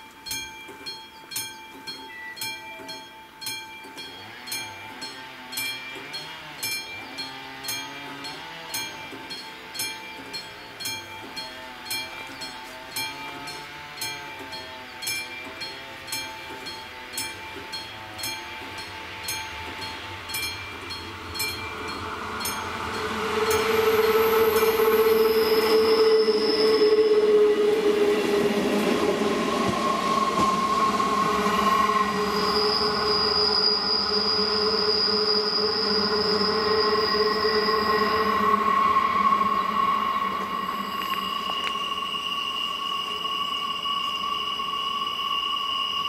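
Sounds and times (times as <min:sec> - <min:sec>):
level crossing warning bell: 0:00.0 - 0:46.0
train wheels squealing: 0:00.0 - 0:46.0.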